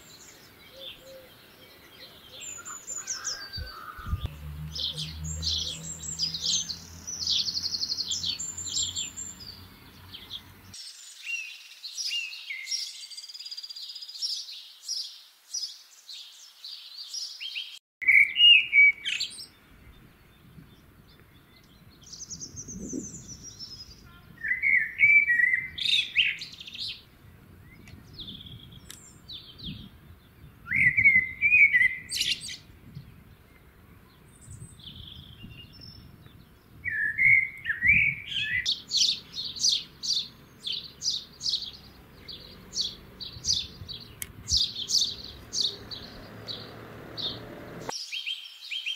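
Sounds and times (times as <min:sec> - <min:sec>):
blackbird singing warbled phrases: 0:00.0 - 0:48.9
songbirds chirping: 0:00.0 - 0:48.9.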